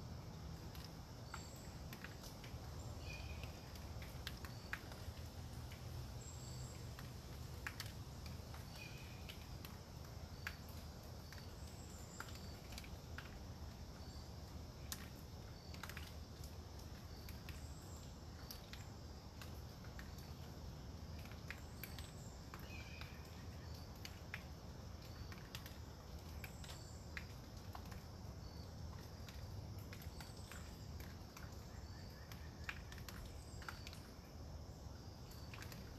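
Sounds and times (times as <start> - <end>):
drops ticking from leaves: 0.0 - 35.9.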